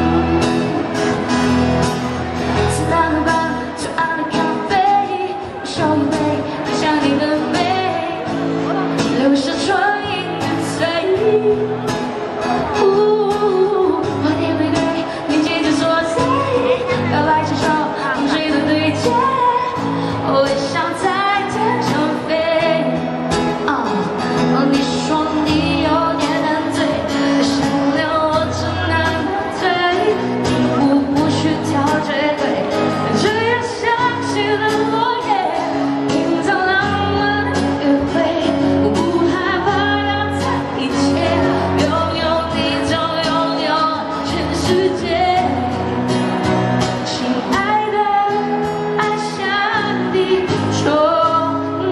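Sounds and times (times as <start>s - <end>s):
strummed acoustic guitar: 0.0s - 51.9s
woman singing pop song: 0.0s - 51.9s.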